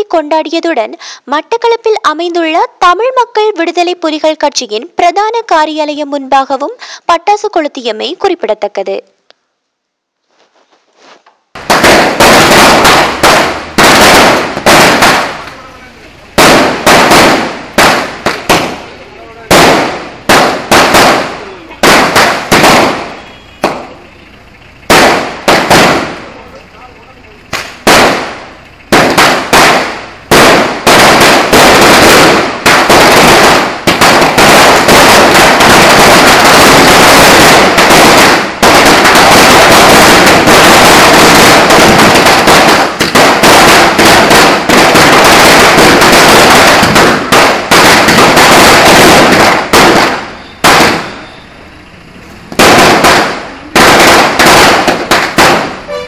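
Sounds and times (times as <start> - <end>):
firecrackers banging: 10.2 - 56.0.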